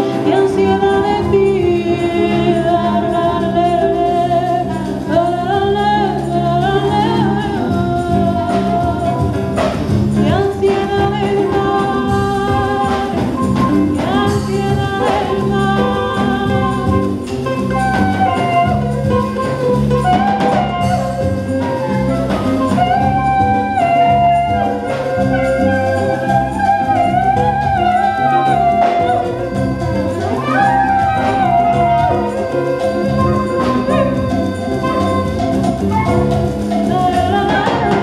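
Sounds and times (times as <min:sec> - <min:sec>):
acoustic guitar: 0:00.0 - 0:38.0
electric bass: 0:00.0 - 0:38.0
percussion: 0:00.0 - 0:38.0
woman singing: 0:00.0 - 0:38.0
woodwind playing: 0:00.0 - 0:38.0.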